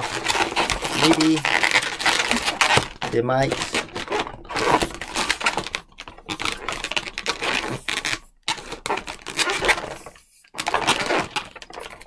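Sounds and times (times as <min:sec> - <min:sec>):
balloon rubbing and squeaking: 0:00.0 - 0:12.0.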